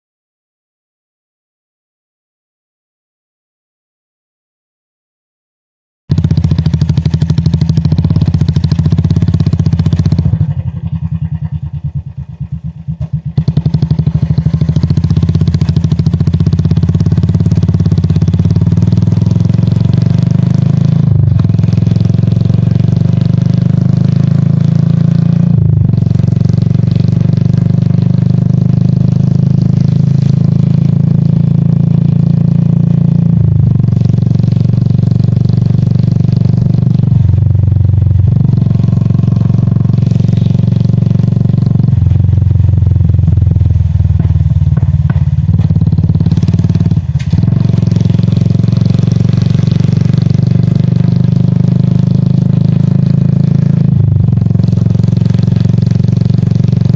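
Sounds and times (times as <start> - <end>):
motorcycle engine running: 6.1 - 56.9.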